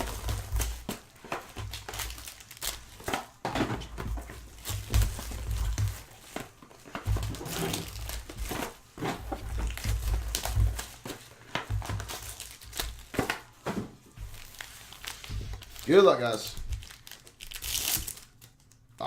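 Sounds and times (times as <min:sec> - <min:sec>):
plastic wrapping crinkling: 0:00.0 - 0:19.0.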